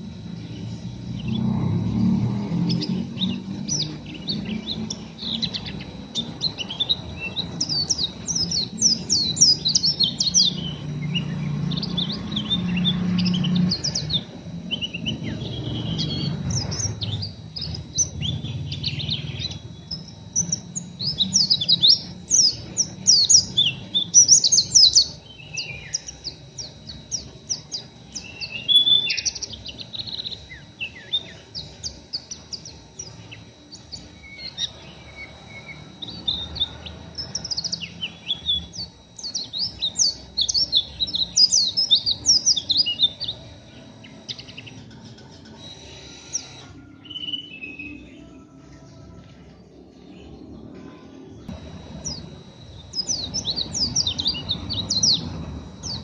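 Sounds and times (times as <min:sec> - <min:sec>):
low hum: 0:00.0 - 0:46.8, 0:48.3 - 0:56.0
white-eye bird twittering: 0:02.5 - 0:48.0, 0:51.6 - 0:56.0.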